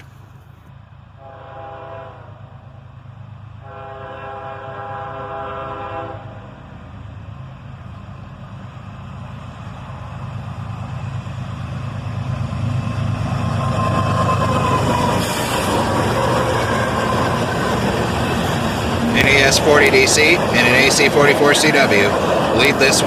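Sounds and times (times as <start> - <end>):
diesel locomotive engines rumbling: 0.0 - 23.0.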